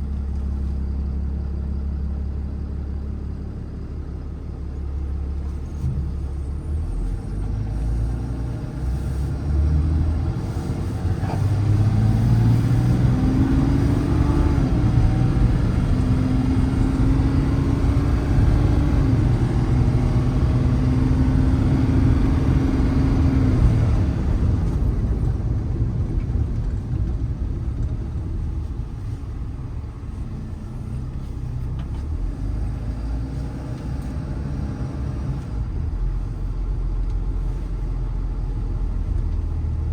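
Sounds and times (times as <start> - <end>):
diesel truck engine accelerating: 0.0 - 39.9.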